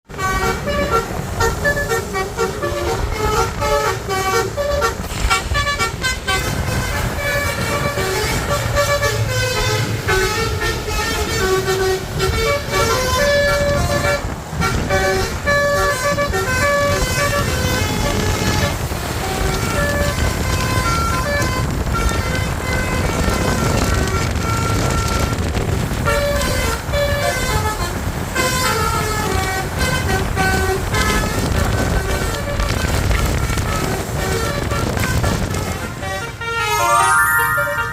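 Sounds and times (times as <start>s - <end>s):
bus horn playing melody: 0.1s - 37.9s.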